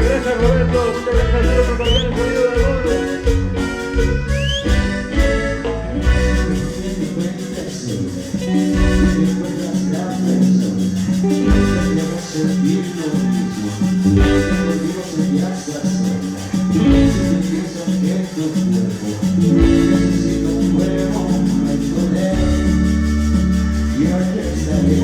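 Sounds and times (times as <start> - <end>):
latin band with guitar and percussion: 0.0 - 25.0.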